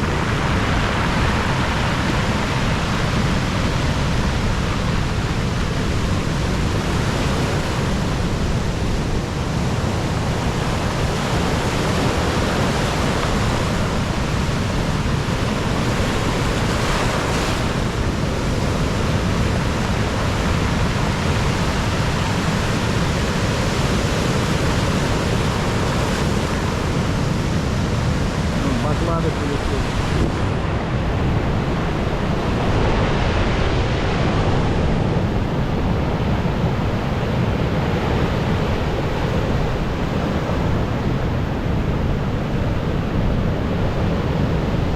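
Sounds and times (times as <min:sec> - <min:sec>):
waves breaking: 0:00.0 - 0:44.9
wind on microphone: 0:00.0 - 0:44.9.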